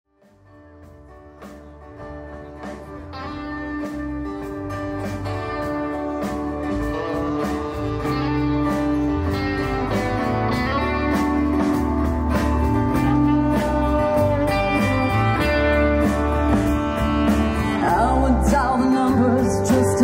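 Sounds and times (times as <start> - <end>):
bass: 0.1 - 20.0
guitar: 0.1 - 20.0
drums keeping a steady beat: 0.2 - 20.0.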